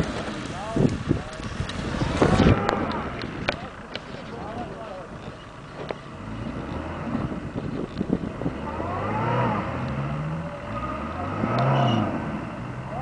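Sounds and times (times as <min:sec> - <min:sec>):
car engine revving under load: 0:00.0 - 0:13.0.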